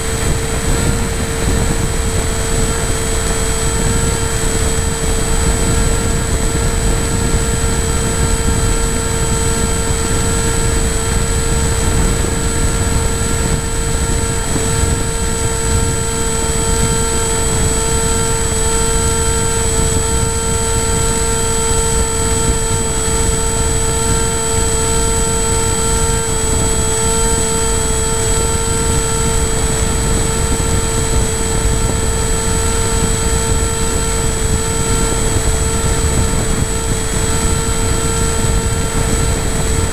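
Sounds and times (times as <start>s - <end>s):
model aircraft motor whine: 0.0s - 39.9s
wind rushing over microphone: 0.0s - 39.9s.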